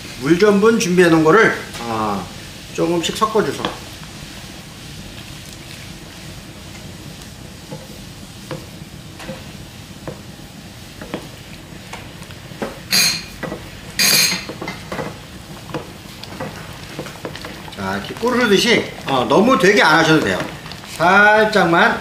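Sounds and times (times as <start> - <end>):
soup simmering: 0.8 - 22.0.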